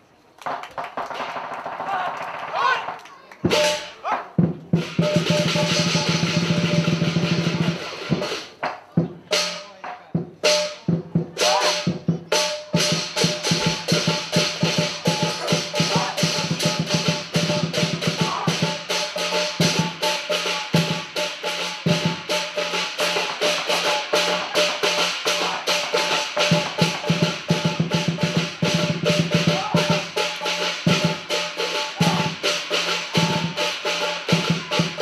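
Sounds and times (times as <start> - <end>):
fast drumbeats: 0.4 - 35.0.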